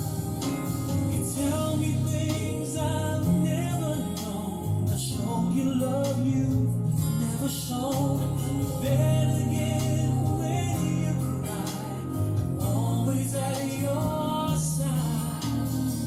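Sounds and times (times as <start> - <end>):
slow love song with guitar: 0.0 - 16.0.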